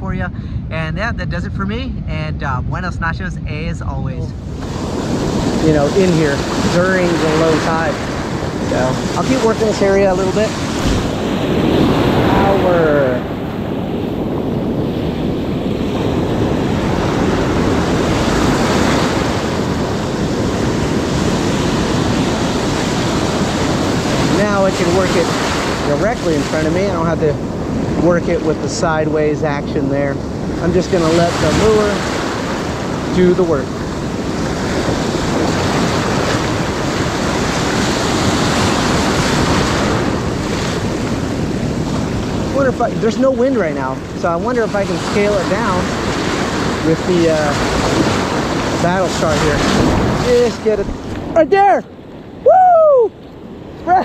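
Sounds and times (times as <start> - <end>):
ocean surf breaking: 3.8 - 54.0.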